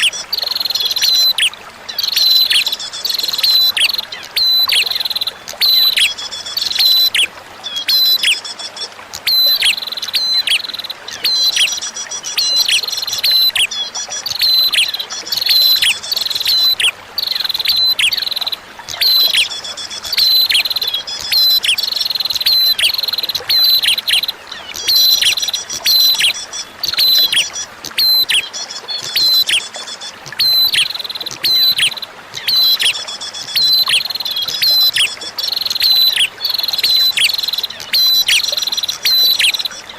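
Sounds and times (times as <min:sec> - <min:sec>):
bird chirping song: 0:00.0 - 0:39.9
flowing water hiss: 0:00.0 - 0:39.9.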